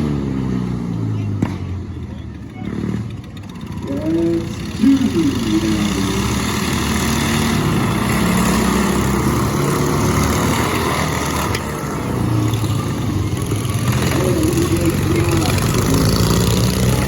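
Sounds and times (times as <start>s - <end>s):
lawn mower engines running: 0.0s - 17.0s.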